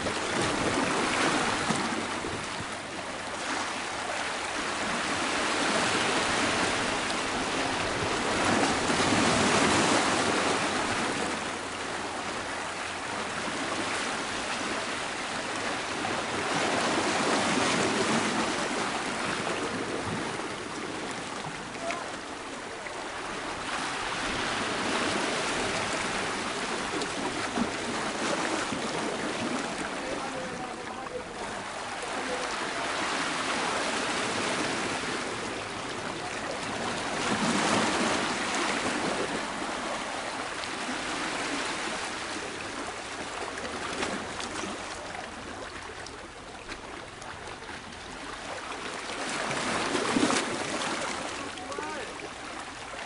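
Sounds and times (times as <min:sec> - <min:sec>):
waves on rocky shore: 0:00.0 - 0:53.0.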